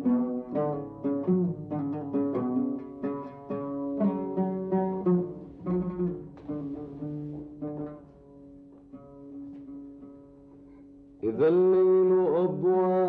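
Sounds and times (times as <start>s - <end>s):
plucked and bowed strings: 0.0s - 13.0s.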